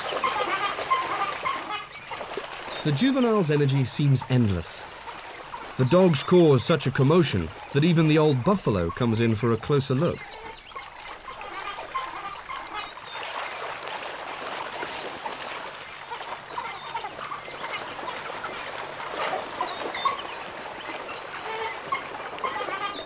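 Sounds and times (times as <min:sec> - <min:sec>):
dogs splashing through water: 0:00.0 - 0:23.0.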